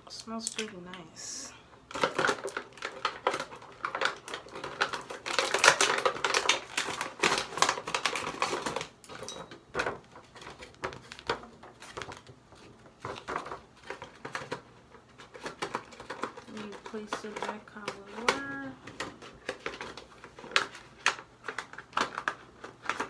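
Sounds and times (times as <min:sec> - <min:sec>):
plastic packaging clicks and rattles: 0:01.9 - 0:23.0.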